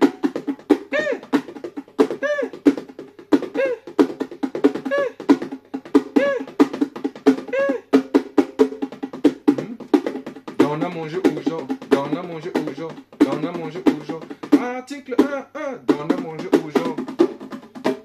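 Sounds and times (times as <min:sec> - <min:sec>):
bongos played by hand: 0:00.0 - 0:18.0.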